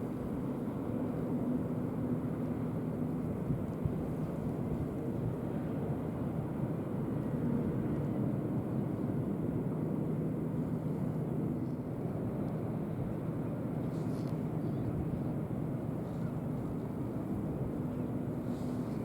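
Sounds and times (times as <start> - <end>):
ship engine rumble: 0.0 - 19.0.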